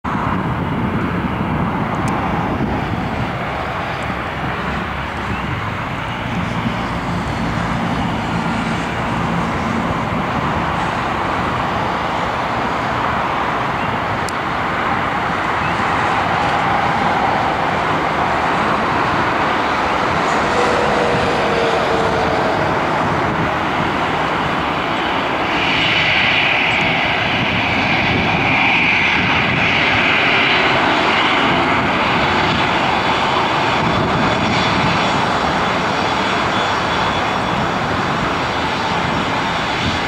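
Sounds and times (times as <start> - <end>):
jet engines taxiing: 0.1 - 40.0.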